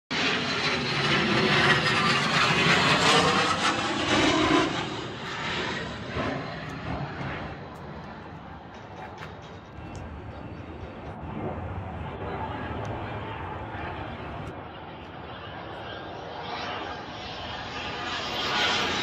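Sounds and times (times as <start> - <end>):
jet flying low overhead: 0.1 - 19.0.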